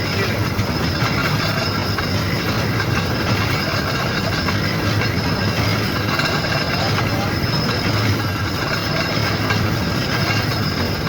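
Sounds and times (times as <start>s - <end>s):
machinery rattling: 0.0s - 11.0s.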